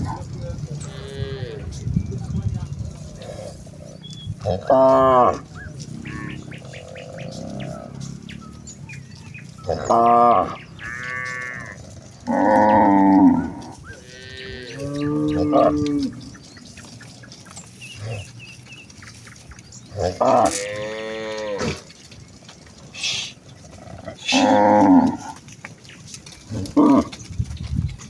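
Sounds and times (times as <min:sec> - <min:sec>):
cattle mooing: 0:00.0 - 0:01.8, 0:02.9 - 0:17.0, 0:17.8 - 0:18.6, 0:19.9 - 0:22.1, 0:22.7 - 0:25.5, 0:26.5 - 0:27.2.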